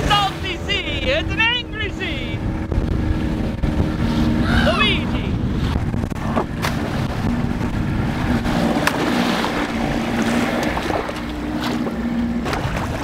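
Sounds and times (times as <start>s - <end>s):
choppy water rushing past hull: 0.0s - 13.0s
outboard motor humming: 0.0s - 13.0s
wind: 0.0s - 13.0s.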